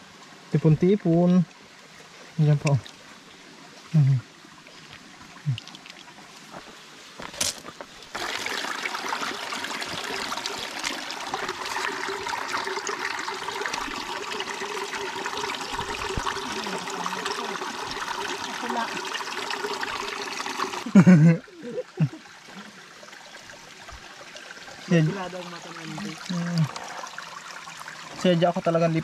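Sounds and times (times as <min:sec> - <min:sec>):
stream water running over rocks: 0:00.0 - 0:29.0.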